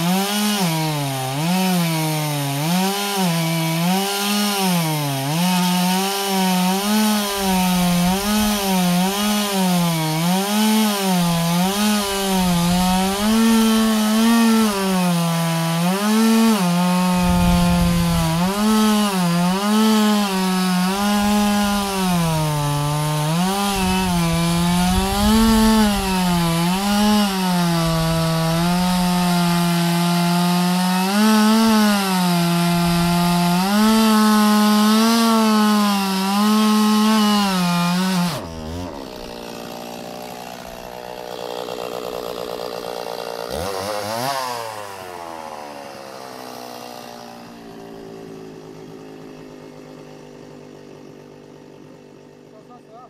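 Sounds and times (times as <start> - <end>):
chainsaw engine revving: 0.0 - 53.0.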